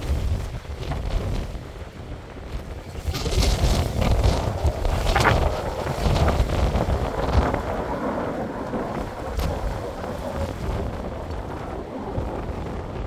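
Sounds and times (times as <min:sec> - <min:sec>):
strong wind buffeting microphone: 0:00.0 - 0:13.0
surf breaking on rocks: 0:00.0 - 0:13.0.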